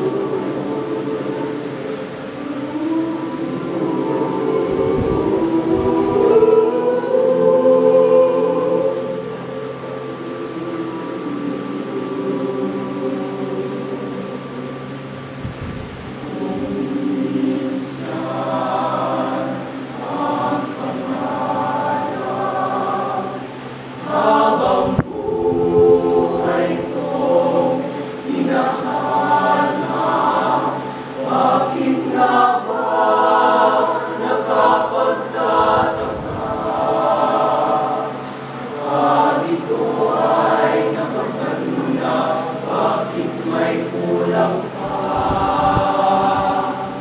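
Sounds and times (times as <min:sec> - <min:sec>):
youth choir singing: 0:00.0 - 0:47.0.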